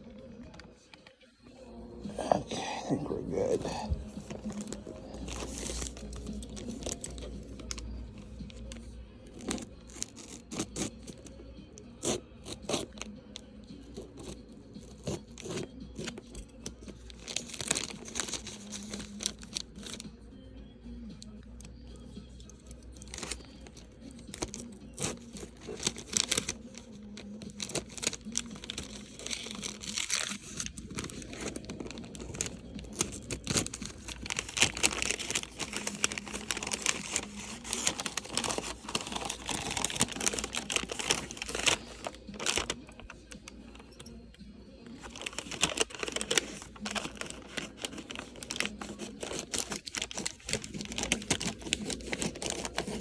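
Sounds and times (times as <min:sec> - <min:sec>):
packing material crinkling and tearing: 0:02.2 - 0:11.3, 0:13.9 - 0:20.0, 0:22.4 - 0:43.9, 0:44.9 - 0:53.0.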